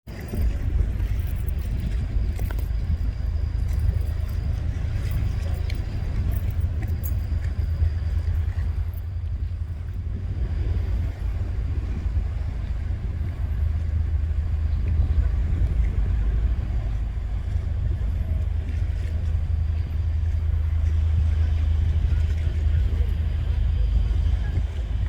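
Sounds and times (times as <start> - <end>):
tugboat engines rumbling: 0.1 - 25.0
faint high whine: 0.2 - 25.0.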